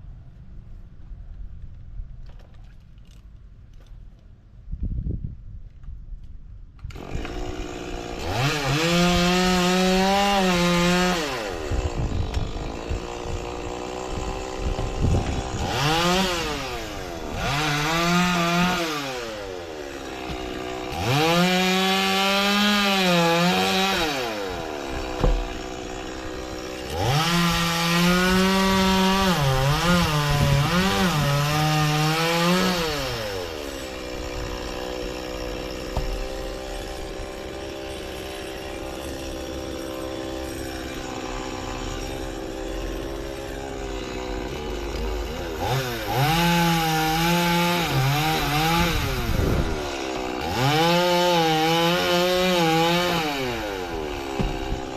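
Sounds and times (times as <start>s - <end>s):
chainsaw cutting wood: 6.8s - 54.9s.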